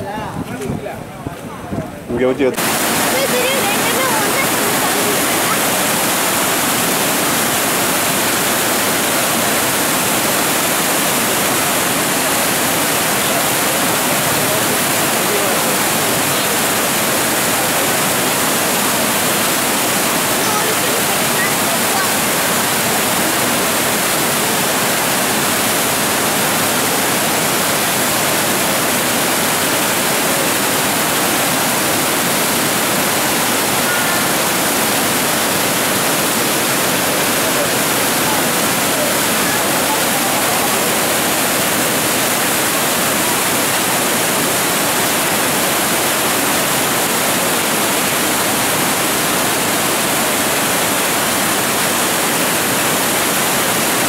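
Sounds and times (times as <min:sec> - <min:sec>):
floodwater rushing over weir: 0:00.0 - 0:54.0.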